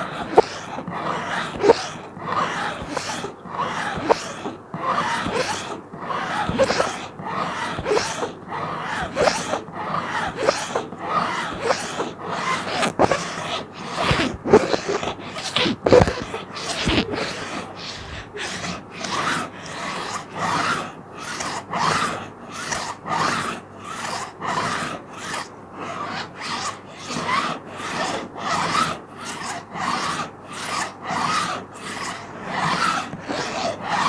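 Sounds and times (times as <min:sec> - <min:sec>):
plastic sheet being scratched: 0:00.0 - 0:34.0.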